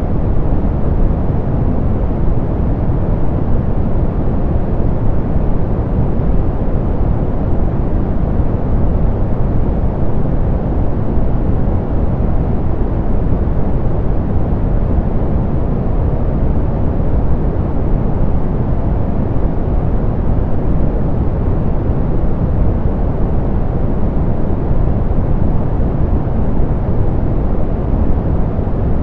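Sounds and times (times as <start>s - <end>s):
deep rumbling pink noise: 0.0s - 29.0s.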